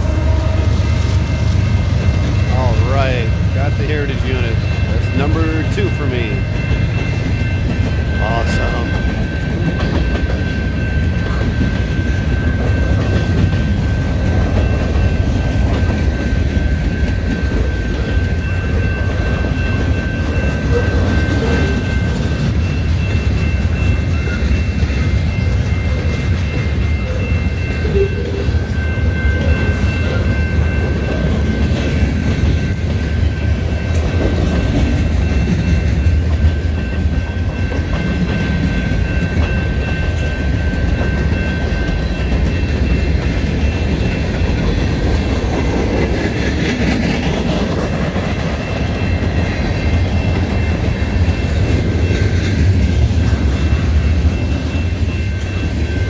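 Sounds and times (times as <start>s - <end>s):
high-pitched ringing tones: 0.0s - 46.0s, 47.8s - 56.0s
steel wheels rumbling on rail: 0.0s - 56.0s.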